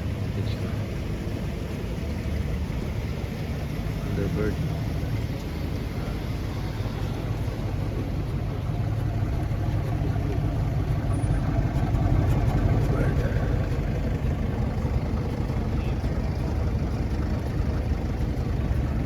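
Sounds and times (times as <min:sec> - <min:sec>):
car engine low rumble: 0:00.0 - 0:19.0
street noise: 0:00.0 - 0:19.0.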